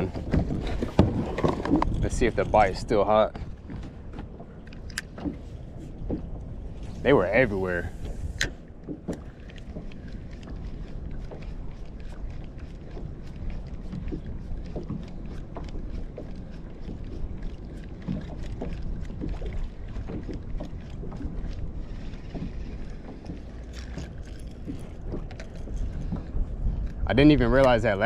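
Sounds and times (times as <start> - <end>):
water splashing around kayak: 0.0 - 28.0
wind on microphone: 0.0 - 28.0.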